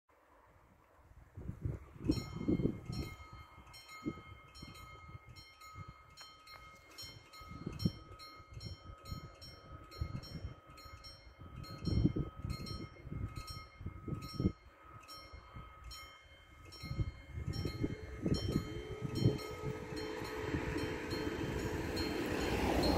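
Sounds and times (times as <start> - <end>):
wind gusts on microphone: 0.4 - 22.9
level crossing warning bells: 2.1 - 22.9.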